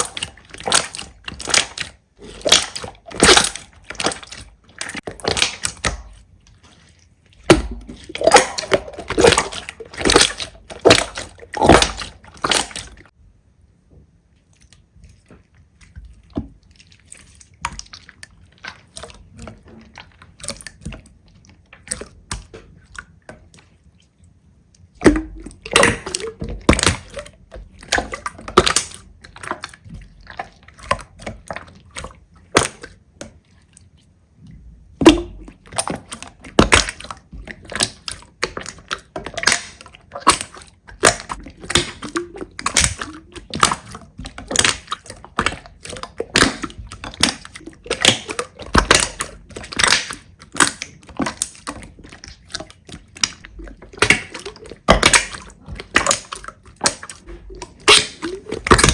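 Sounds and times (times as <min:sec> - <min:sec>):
slime squelching: 0:00.0 - 0:13.2, 0:14.1 - 0:58.9.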